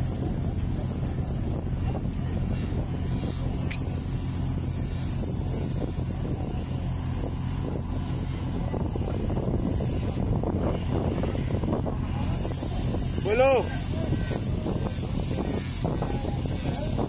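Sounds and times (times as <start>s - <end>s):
low engine drone: 0.0s - 17.0s
wind hiss on microphone: 0.0s - 17.0s.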